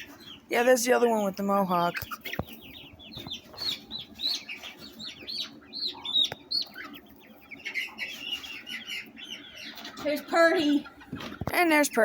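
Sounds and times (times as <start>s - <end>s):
chickens chirping and peeping: 0.0s - 12.0s.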